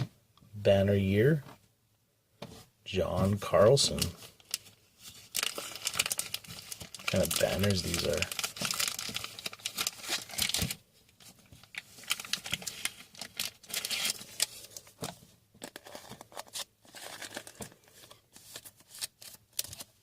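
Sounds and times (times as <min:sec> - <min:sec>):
plastic wrapping crinkling: 0:03.8 - 0:20.0.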